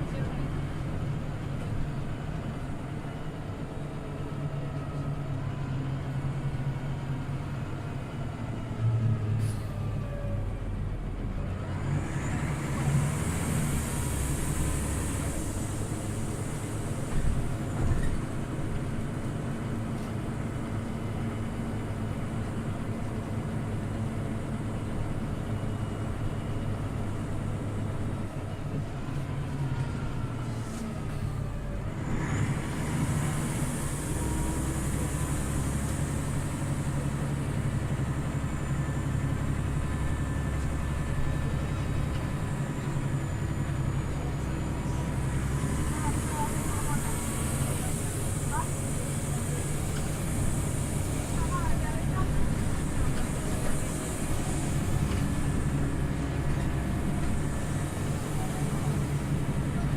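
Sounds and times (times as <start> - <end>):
bus engine hum: 0.0 - 59.9
road noise: 0.0 - 59.9.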